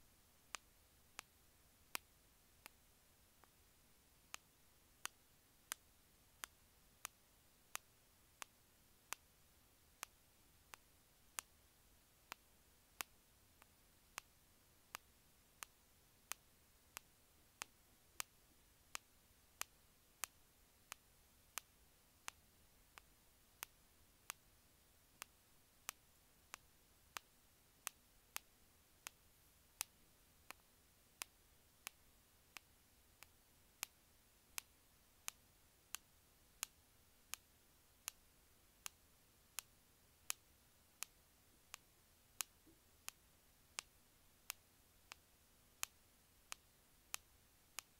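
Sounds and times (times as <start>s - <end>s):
faint hiss: 0.0s - 47.9s.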